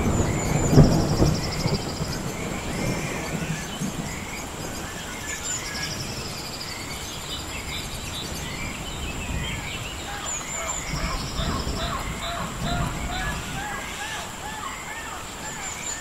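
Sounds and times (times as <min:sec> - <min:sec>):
thunder rumble: 0:00.0 - 0:15.6
birds chirping: 0:00.0 - 0:16.0
rain hiss: 0:00.0 - 0:16.0.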